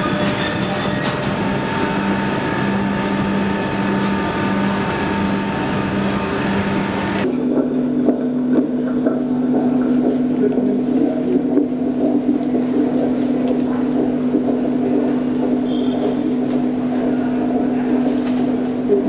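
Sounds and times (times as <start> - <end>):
train rumble and electric hum: 0.0 - 19.0.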